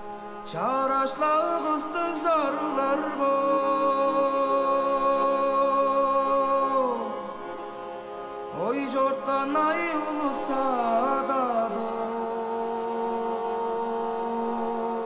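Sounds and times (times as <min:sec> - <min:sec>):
man singing long held note: 0:00.0 - 0:15.0.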